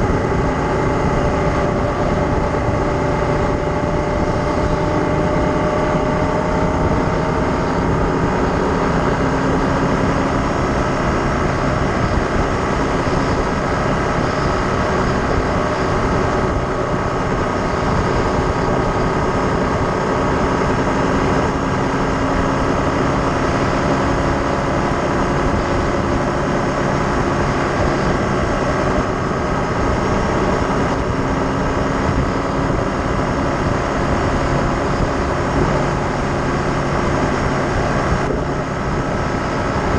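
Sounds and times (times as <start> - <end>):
road and wind noise: 0.0 - 39.9
vehicle engine running: 0.0 - 39.9.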